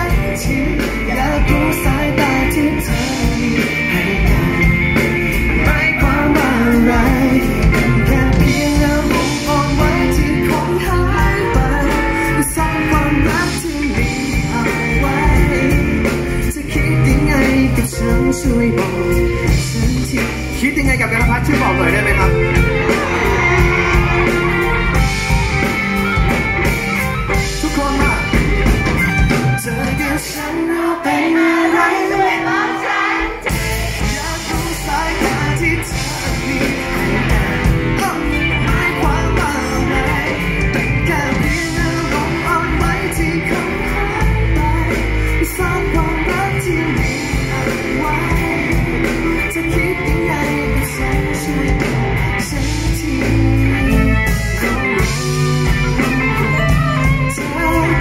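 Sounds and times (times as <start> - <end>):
man singing: 0.0 - 26.4, 27.3 - 58.0
live rock band: 0.0 - 58.0.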